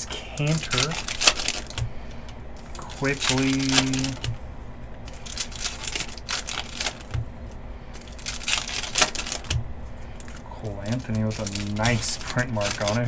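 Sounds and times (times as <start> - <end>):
cards and foil wrapper rustling: 0.0 - 4.4, 5.0 - 13.0.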